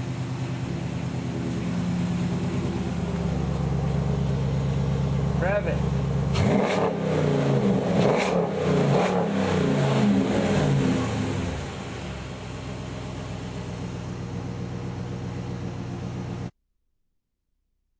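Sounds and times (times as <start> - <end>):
car engine revving and idling: 0.0 - 16.5.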